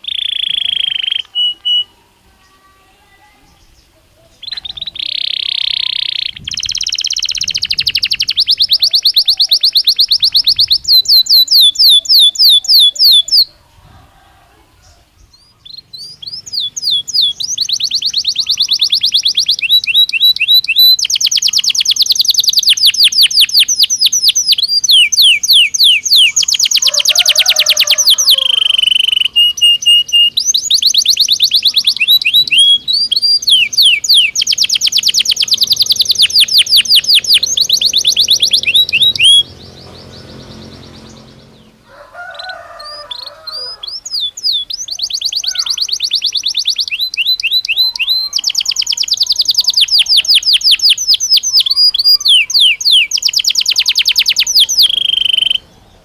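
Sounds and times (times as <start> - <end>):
canary singing trills: 0.0 - 13.6, 14.8 - 56.0.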